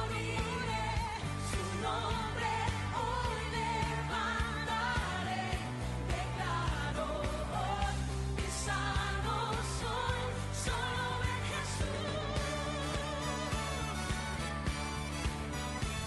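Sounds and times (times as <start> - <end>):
bass: 0.0 - 16.0
drums: 0.0 - 16.0
pop song with sung vocals: 0.0 - 16.0.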